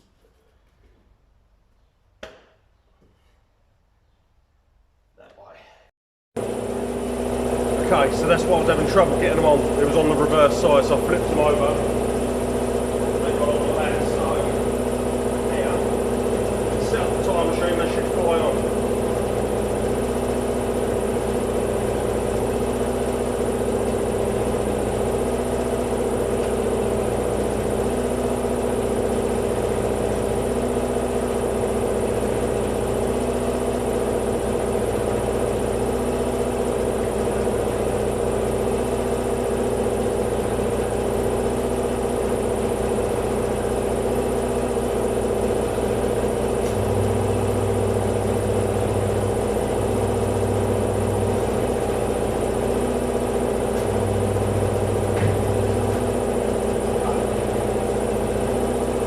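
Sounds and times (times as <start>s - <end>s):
deeper hum: 6.4s - 59.0s
motor humming: 6.4s - 59.0s.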